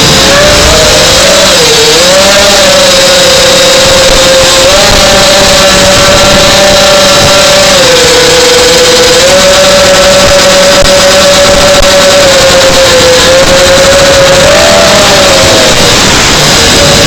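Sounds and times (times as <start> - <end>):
model airplane motor whine: 0.0 - 17.0
rush of air: 0.0 - 17.0.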